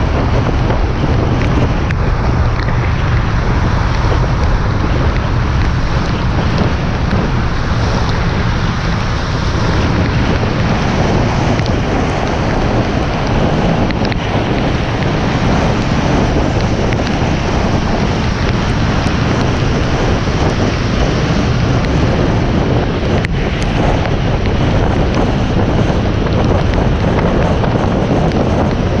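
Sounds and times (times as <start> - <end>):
hissing road spray: 0.0 - 29.0
rain on camera: 0.0 - 29.0
wind rush: 0.0 - 29.0.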